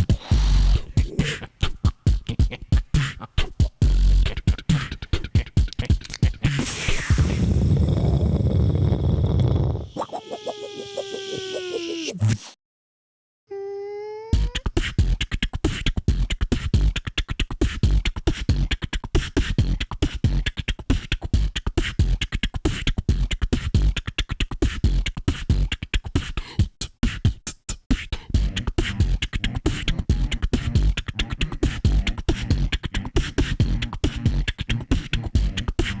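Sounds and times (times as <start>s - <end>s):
person beatboxing: 0.0s - 12.2s, 14.3s - 36.0s.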